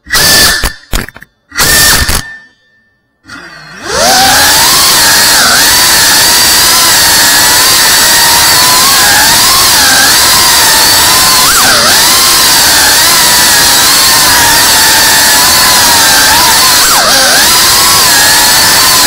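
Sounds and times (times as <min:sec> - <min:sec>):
quadcopter motors whining: 0:03.2 - 0:19.0.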